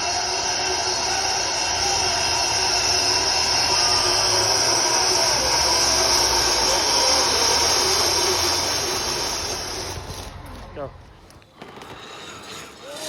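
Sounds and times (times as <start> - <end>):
zip-line trolley whirring on cable: 0.0 - 13.0.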